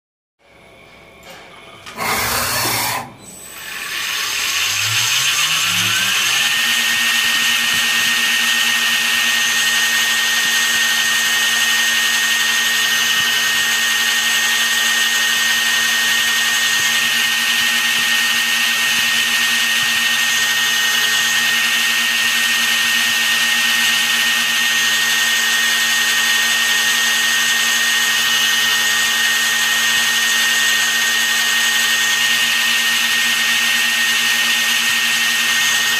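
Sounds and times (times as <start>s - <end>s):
spindle motor whine: 0.8s - 35.9s.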